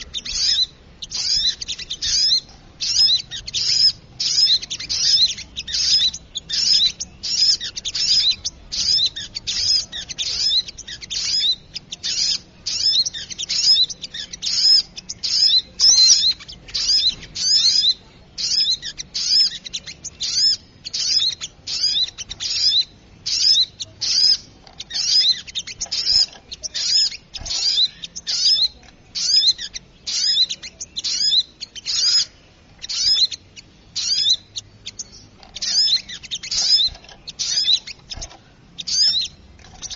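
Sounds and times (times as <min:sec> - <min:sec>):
songbird chirping rapidly: 0:00.0 - 0:39.9.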